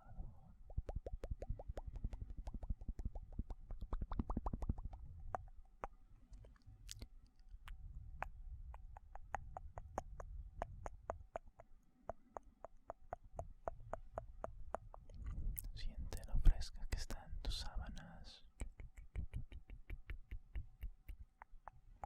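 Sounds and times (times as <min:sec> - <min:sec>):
wet tongue clicks and lip smacks: 0:00.6 - 0:16.3, 0:18.5 - 0:22.0.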